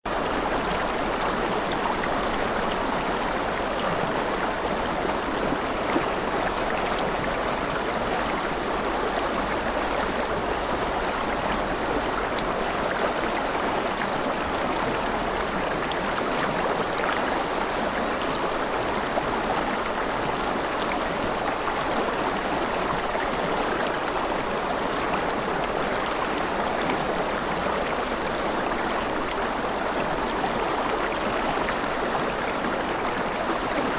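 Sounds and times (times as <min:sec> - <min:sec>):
river water flowing and splashing: 0:00.1 - 0:33.9.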